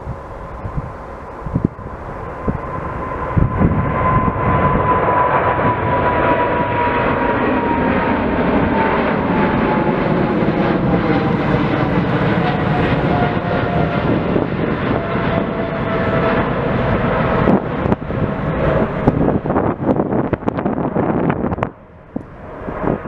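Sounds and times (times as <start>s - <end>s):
jet engine roar: 0.0s - 23.0s
jet fan whine: 0.0s - 23.0s.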